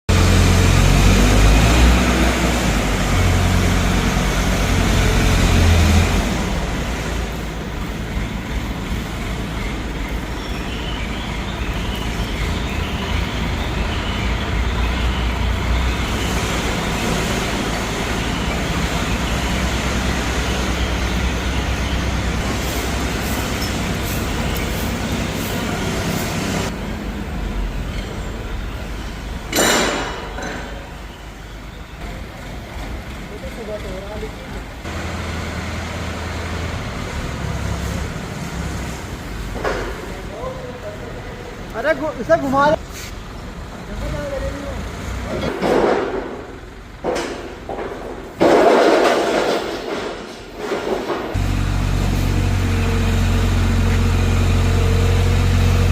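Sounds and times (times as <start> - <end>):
heavy machinery deep rumble: 0.1 - 41.8, 42.8 - 55.9.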